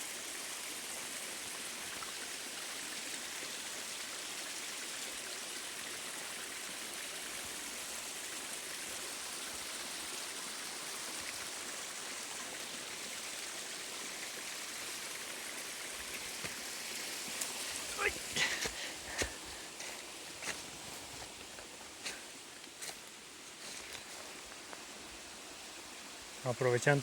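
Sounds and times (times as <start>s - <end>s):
small stream flowing: 0.0s - 27.0s.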